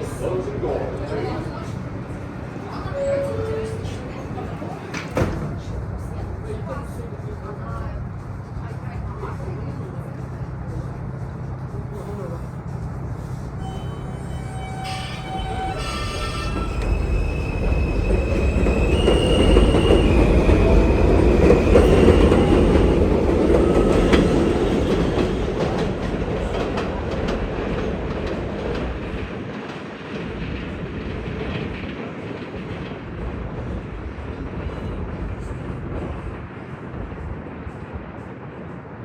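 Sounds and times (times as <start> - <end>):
subway train motors whining: 0.0 - 39.0
wheels rumbling on rail: 0.0 - 39.0.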